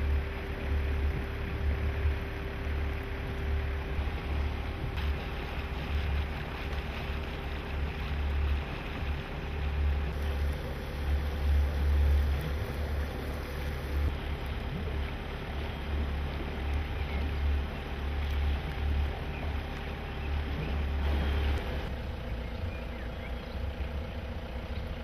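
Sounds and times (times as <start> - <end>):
motorboat engine running: 0.0 - 25.0.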